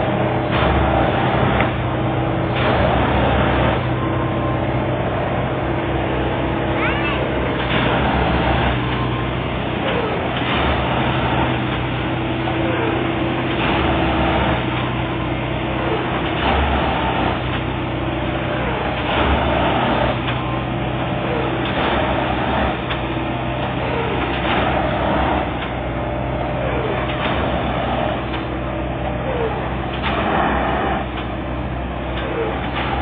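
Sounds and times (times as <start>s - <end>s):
diesel engine running: 0.0s - 33.0s
tamping machine working ballast: 0.0s - 33.0s.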